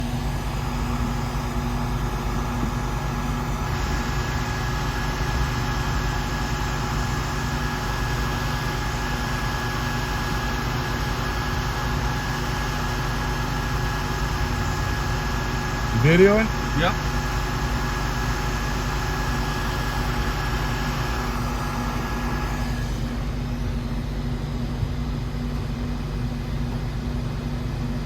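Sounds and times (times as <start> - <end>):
heat gun fan blowing: 0.0 - 28.0.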